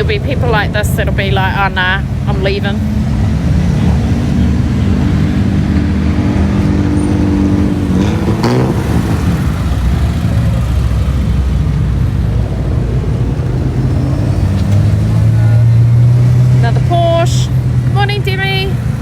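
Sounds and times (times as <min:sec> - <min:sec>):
car engines passing slowly: 0:00.0 - 0:19.0.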